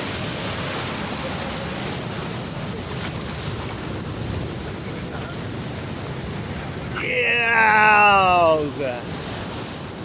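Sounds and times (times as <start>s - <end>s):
ocean surf rushing: 0.0s - 10.0s.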